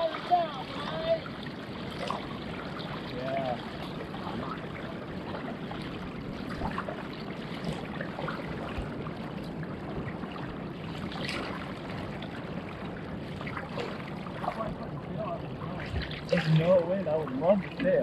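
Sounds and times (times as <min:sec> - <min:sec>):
small water splashes: 0:00.0 - 0:18.0
water lapping against kayak hull: 0:00.0 - 0:18.0.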